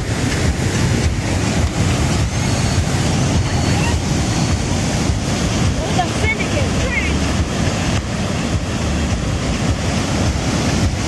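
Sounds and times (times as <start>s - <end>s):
water rushing over rocks: 0.0s - 11.0s
wind buffeting microphone: 0.0s - 11.0s.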